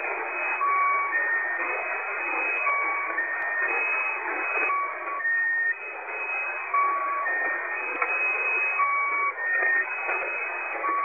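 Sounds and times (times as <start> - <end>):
short steady radio tones: 0.0 - 11.0.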